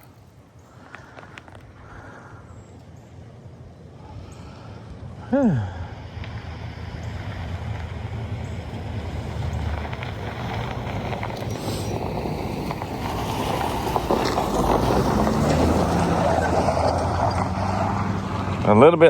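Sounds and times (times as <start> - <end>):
vehicle road and tyre noise: 0.0 - 19.0.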